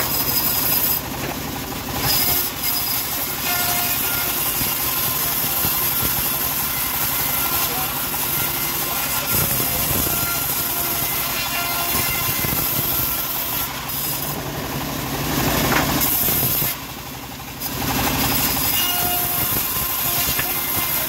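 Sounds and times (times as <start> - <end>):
bandsaw cutting wood: 0.0 - 21.0.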